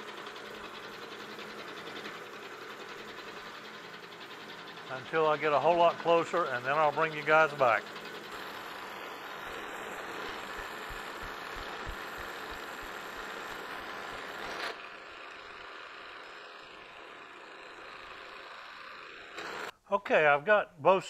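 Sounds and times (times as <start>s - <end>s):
milling machine cutting metal: 0.0s - 19.7s.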